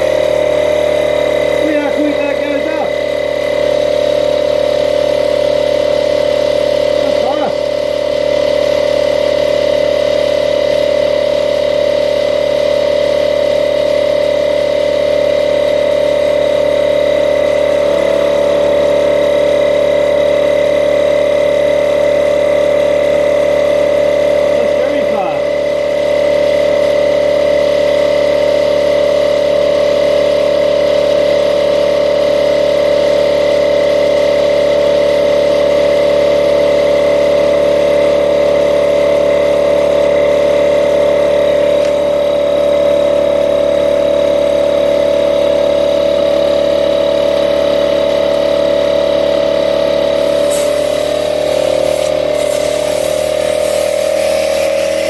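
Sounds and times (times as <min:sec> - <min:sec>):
air compressor whining: 0:00.0 - 0:55.0.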